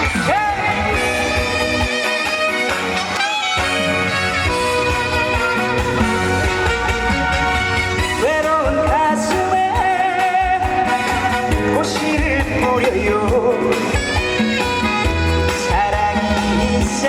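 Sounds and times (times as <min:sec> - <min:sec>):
band playing trot music: 0:00.0 - 0:17.0
bending lead melody: 0:00.0 - 0:17.0.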